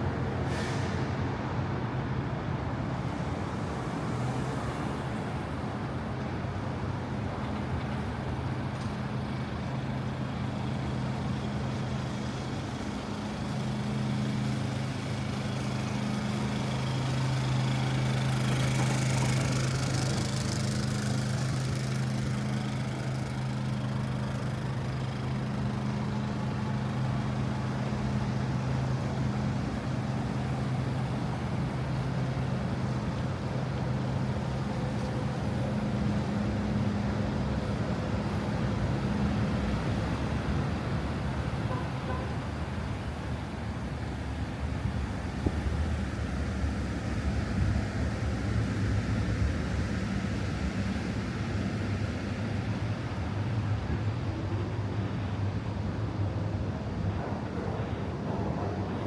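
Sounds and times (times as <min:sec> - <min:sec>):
street traffic rumble: 0:00.0 - 0:59.0.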